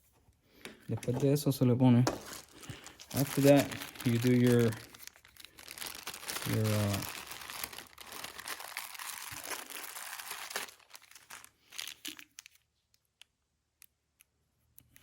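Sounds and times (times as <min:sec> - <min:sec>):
crinkling and rustling: 0:00.0 - 0:13.2.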